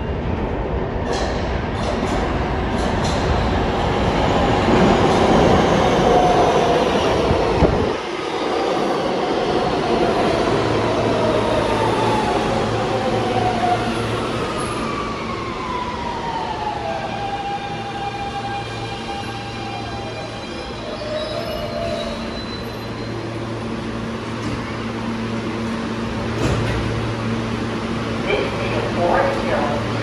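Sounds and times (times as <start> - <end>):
subway train rumbling past: 0.0 - 30.0.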